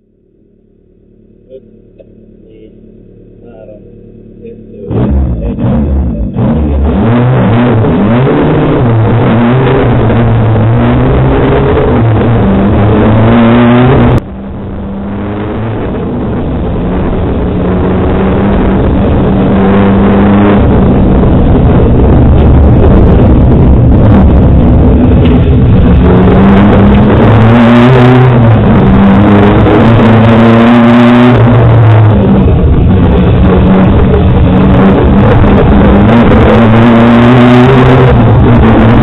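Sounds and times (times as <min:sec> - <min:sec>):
rally car engine revving: 0:00.0 - 0:39.0.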